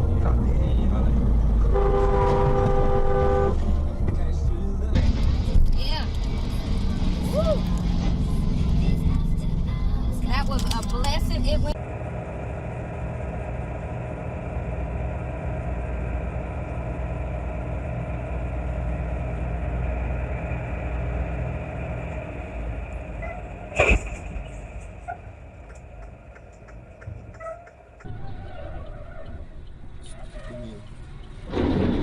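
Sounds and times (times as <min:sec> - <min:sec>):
heavy vehicle engine running: 0:00.0 - 0:32.0.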